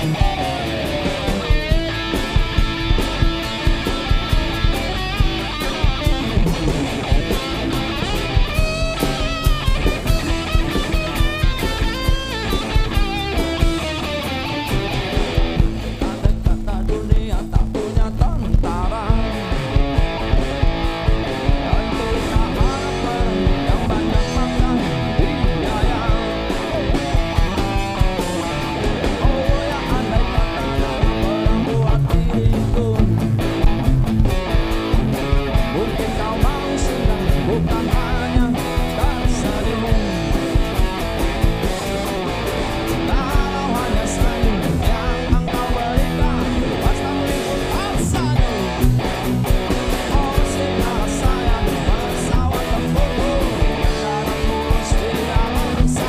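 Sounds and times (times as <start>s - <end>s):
electric guitar lead: 0.0s - 56.0s
live rock band playing: 0.0s - 56.0s.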